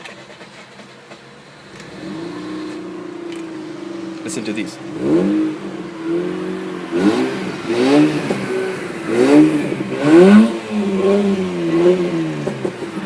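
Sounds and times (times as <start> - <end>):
rotary engine revving: 1.6 - 13.0.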